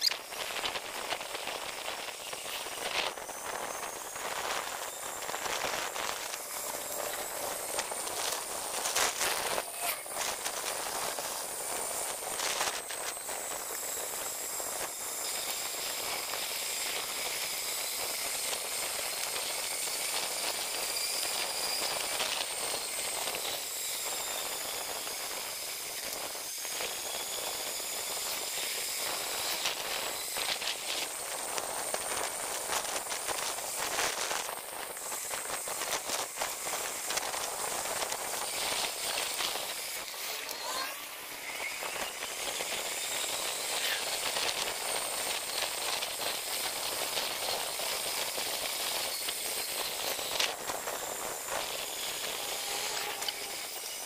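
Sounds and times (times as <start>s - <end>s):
thin high whine: 0.0s - 54.0s.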